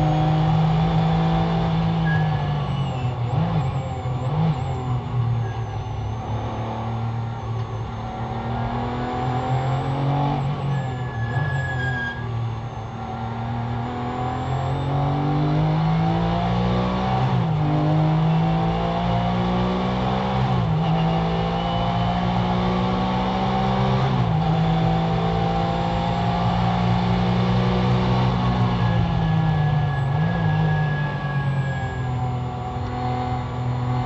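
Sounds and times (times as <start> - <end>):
car engine at full throttle: 0.0 - 34.0.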